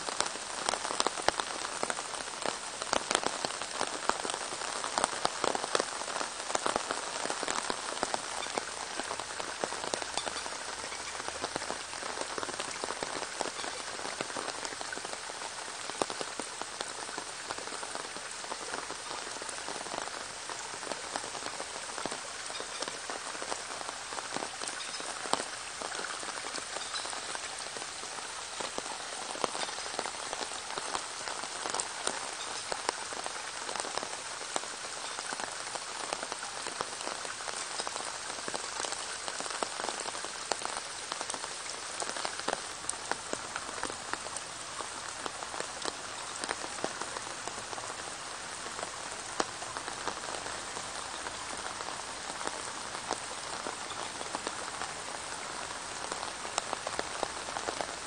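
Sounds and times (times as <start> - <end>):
rain falling on puddle and foliage: 0.0 - 58.0.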